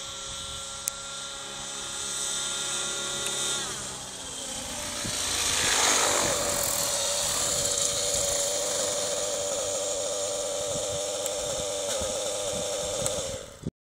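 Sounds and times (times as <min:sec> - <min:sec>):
helicopter motor idling: 0:00.0 - 0:13.7
helicopter rotor swooshing: 0:00.0 - 0:13.7.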